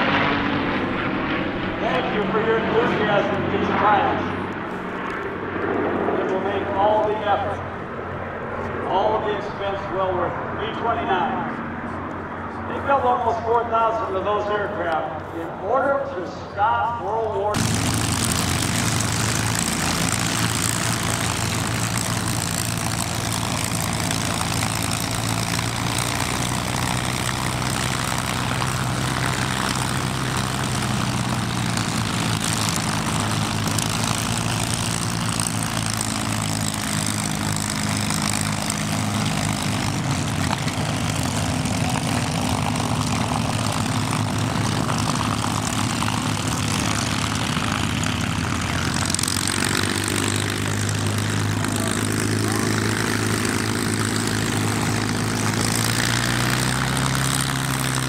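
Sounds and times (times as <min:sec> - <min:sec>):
propeller engines rumbling: 0:00.0 - 0:58.0.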